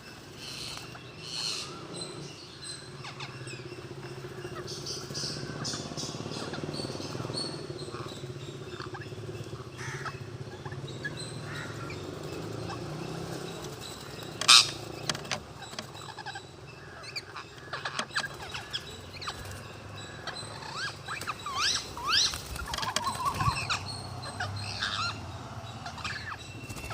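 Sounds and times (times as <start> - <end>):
parrots squawking and chirping: 0.4 - 26.9.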